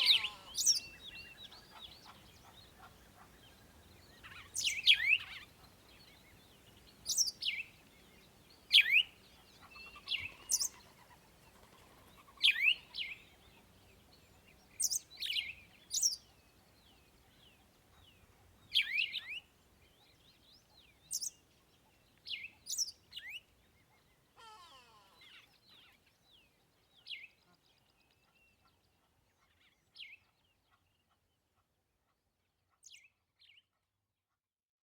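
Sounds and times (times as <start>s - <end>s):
birds chirping: 0.0s - 31.2s.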